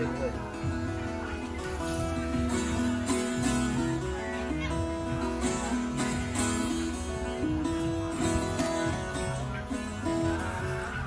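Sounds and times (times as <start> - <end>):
guitar tune: 0.0 - 11.0.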